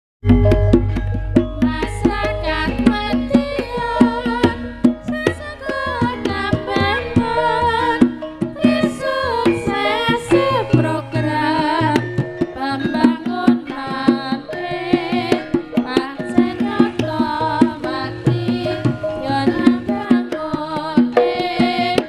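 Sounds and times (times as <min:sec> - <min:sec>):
busy drum beats: 0:00.2 - 0:22.0
wavering bending melody: 0:00.2 - 0:22.0.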